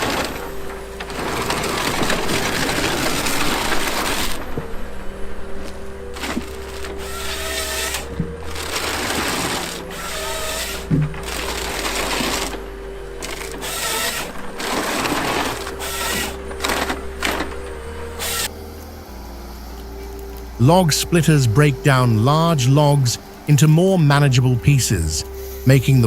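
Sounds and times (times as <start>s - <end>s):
loud grinding cutting noise: 0.0s - 4.6s, 6.0s - 24.2s
steady engine drone: 0.0s - 26.0s.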